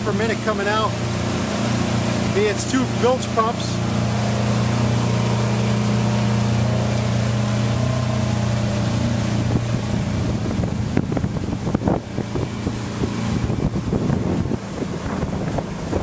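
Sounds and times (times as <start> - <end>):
outboard motor running: 0.0 - 16.0
water rushing past: 0.0 - 16.0
wind buffeting microphone: 0.0 - 16.0.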